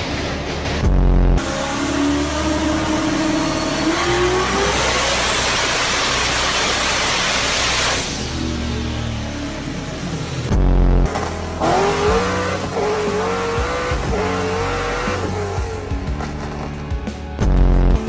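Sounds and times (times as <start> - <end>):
car engine revving at full throttle: 0.0 - 18.0.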